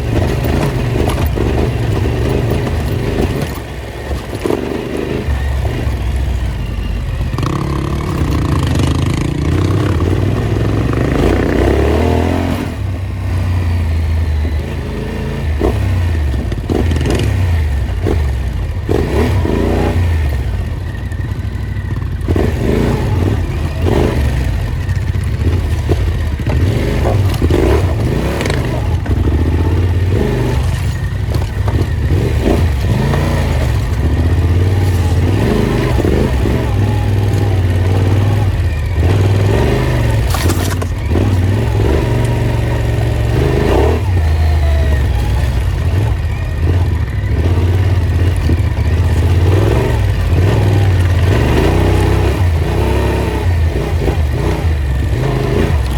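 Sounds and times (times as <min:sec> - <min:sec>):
knocks and clatter from bike: 0:00.0 - 0:55.9
motorcycle engine revving: 0:00.0 - 0:55.9.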